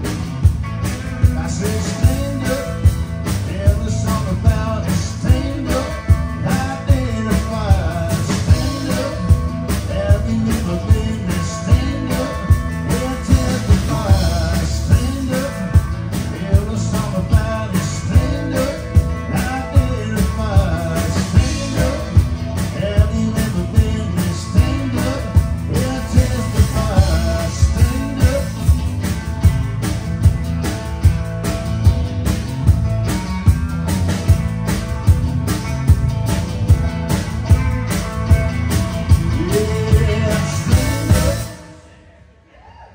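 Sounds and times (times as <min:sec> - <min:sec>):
drum kit beat: 0:00.0 - 0:41.7
bass guitar: 0:00.0 - 0:42.4
electric guitar: 0:00.0 - 0:42.9.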